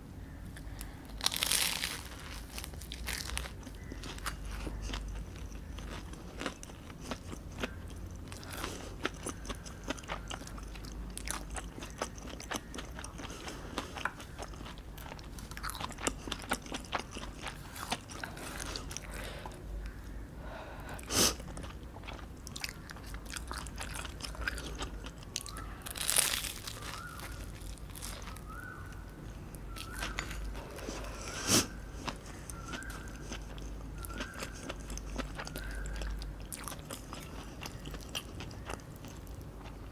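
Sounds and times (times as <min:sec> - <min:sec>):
person crunching and chewing food: 0:00.5 - 0:20.2, 0:21.0 - 0:39.9.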